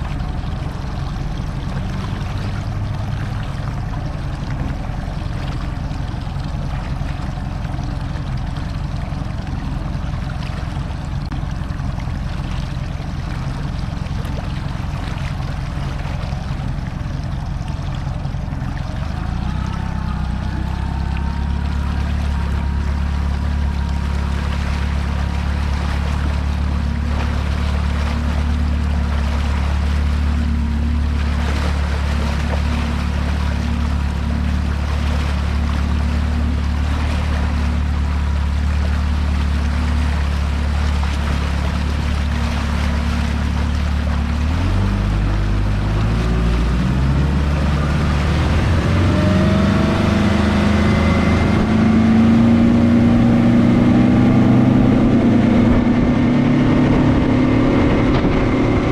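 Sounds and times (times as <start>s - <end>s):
outboard motor running: 0.0s - 58.9s
water rushing past hull: 0.0s - 58.9s.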